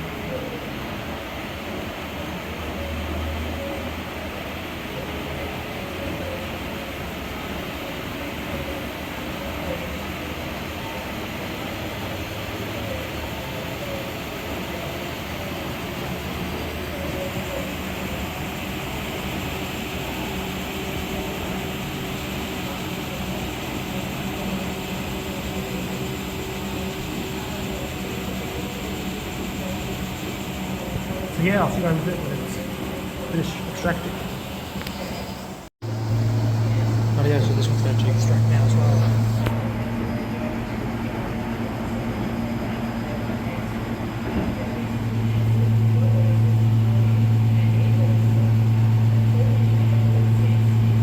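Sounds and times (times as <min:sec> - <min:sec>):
washing machine spinning: 0:00.0 - 0:51.0.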